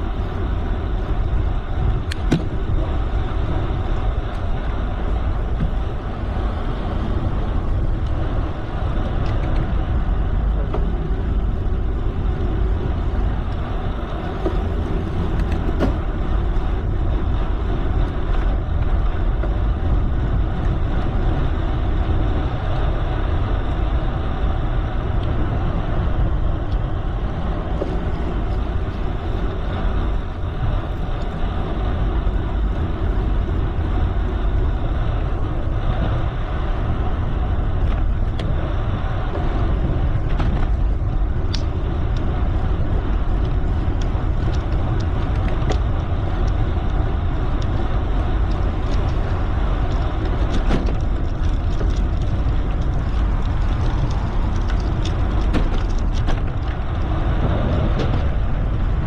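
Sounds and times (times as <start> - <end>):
bicycle tyres rolling on road: 0.0 - 59.0
wind on microphone: 0.0 - 59.0.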